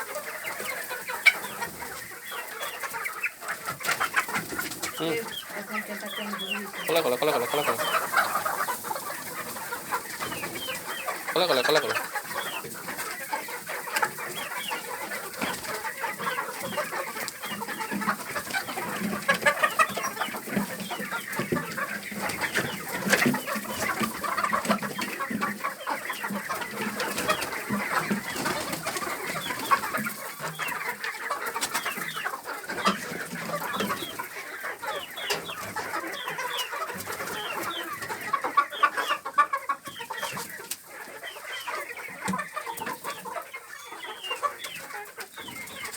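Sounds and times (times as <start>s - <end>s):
hens clucking: 0.0s - 45.9s.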